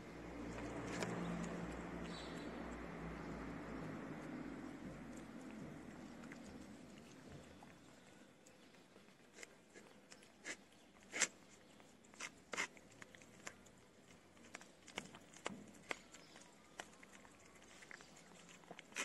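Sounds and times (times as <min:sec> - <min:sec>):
cats chewing wet food: 0:00.0 - 0:19.0.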